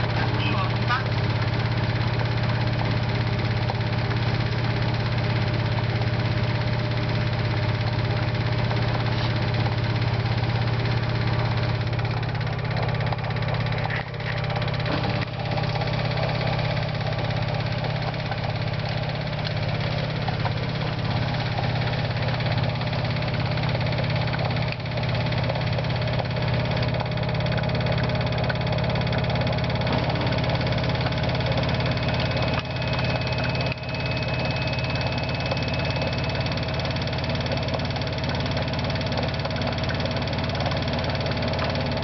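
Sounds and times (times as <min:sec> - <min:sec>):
washing machine spinning hum: 0:00.0 - 0:42.0.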